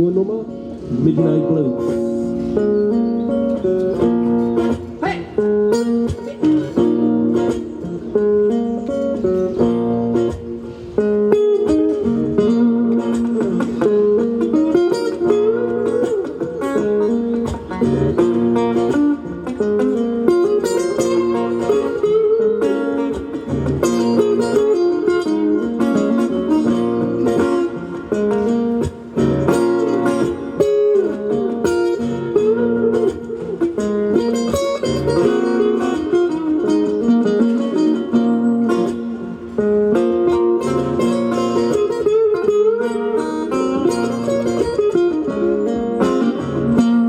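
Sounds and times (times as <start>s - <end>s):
guitar bending notes: 0.0s - 47.0s
live band playing blues: 0.5s - 47.0s.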